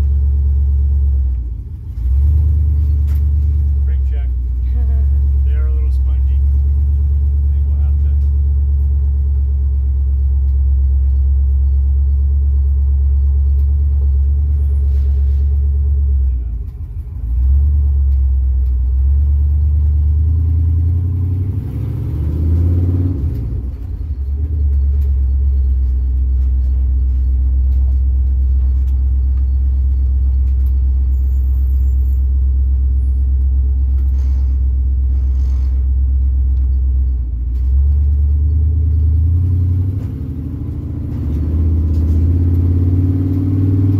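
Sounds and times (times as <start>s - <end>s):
engine droning from inside cab: 0.0s - 43.9s.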